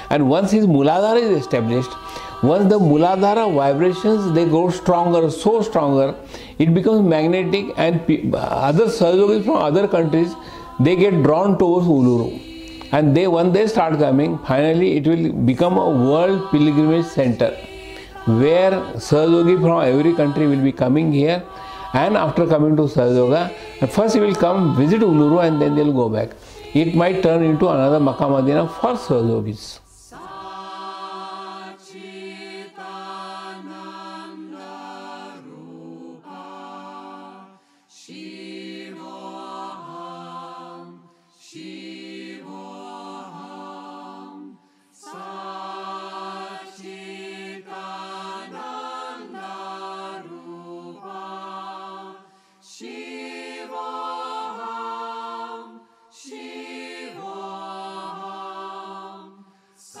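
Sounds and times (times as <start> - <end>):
voices singing a chant: 0.0 - 60.0.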